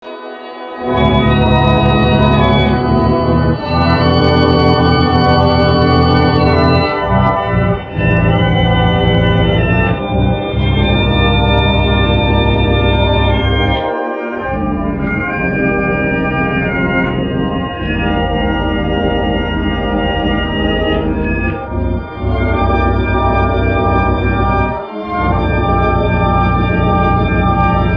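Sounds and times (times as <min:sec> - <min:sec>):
sustained organ-like chords: 0:00.1 - 0:27.9.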